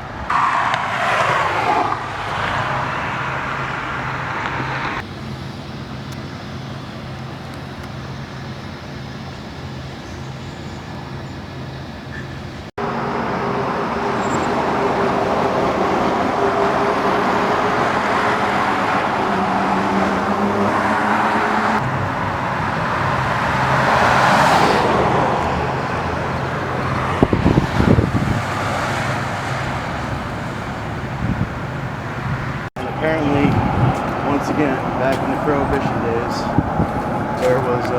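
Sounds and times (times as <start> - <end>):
car engine hum: 0.0 - 37.9
road and tyre noise: 0.0 - 37.9.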